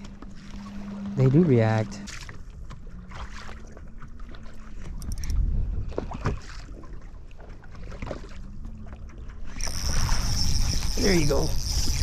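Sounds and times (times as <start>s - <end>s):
waves lapping against boat hull: 0.0s - 12.0s
wind rumbling on microphone: 2.2s - 12.0s.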